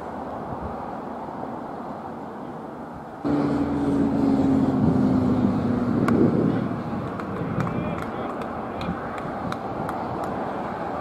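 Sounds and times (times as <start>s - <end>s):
outdoor background hiss: 0.0s - 11.0s
propeller aircraft engine drone: 0.2s - 11.0s.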